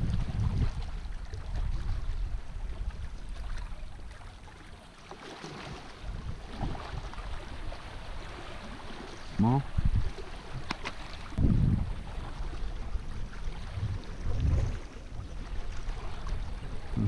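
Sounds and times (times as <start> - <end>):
wind buffeting microphone: 0.0 - 4.4, 5.7 - 17.0
small waves lapping on rocks: 0.0 - 17.0.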